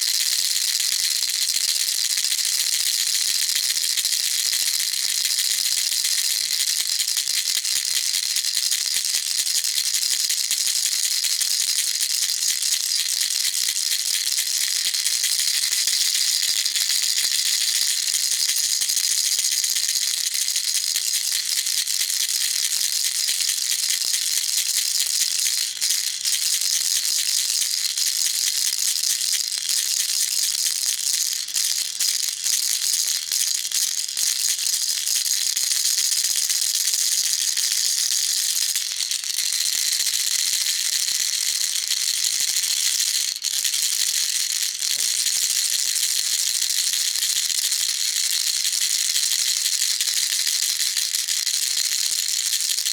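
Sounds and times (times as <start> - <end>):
baby rattle shaking: 0.0 - 9.1, 11.2 - 52.9.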